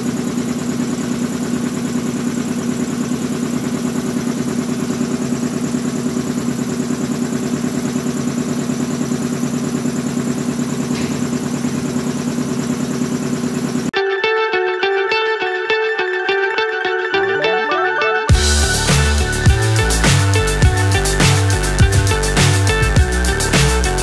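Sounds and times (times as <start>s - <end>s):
air compressor pulsing: 0.0s - 13.9s, 18.3s - 24.0s.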